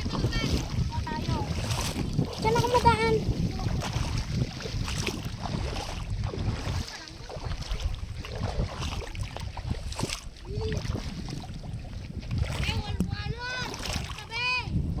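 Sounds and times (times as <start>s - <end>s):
water sloshing from wading: 0.0s - 15.0s
wind rumbling on microphone: 0.0s - 15.0s.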